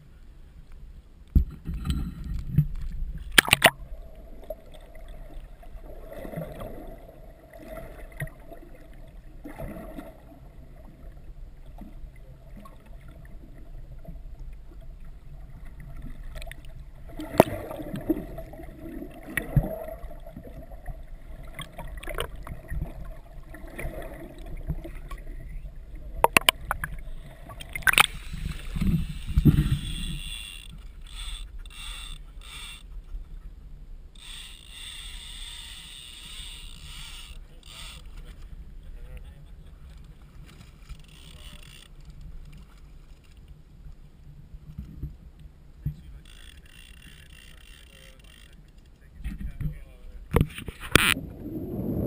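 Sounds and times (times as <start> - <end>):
water sloshing and gurgling: 1.2 - 52.0.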